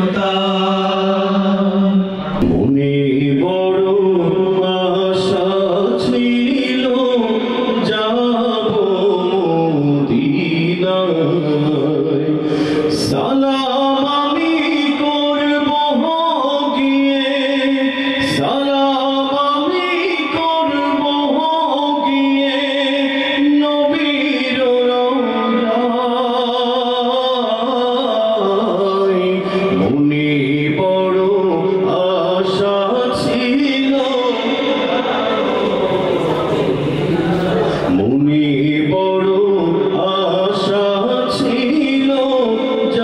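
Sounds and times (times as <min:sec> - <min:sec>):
man singing into microphone: 0:00.0 - 0:43.0.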